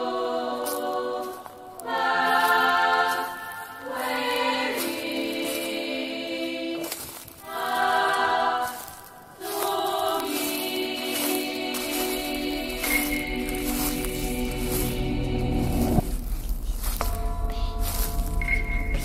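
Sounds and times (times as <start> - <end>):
choir singing held chords: 0.0 - 16.4.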